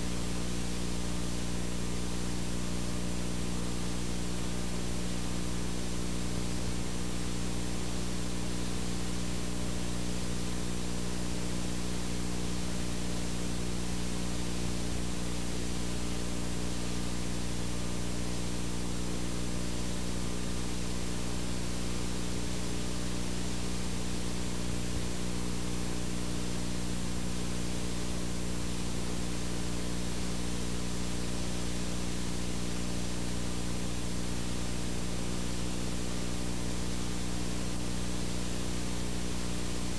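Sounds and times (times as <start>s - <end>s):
low mains hum: 0.0s - 39.9s
static hiss: 0.0s - 39.9s.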